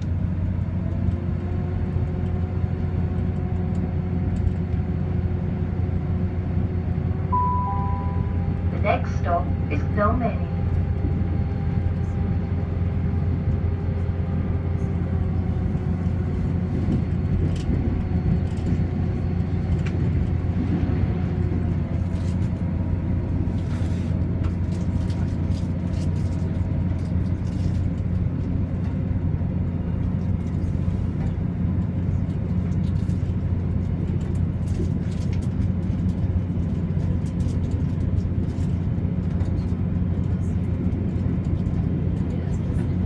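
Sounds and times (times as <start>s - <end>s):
train wheels rumbling on rails: 0.0s - 7.3s, 8.0s - 43.0s.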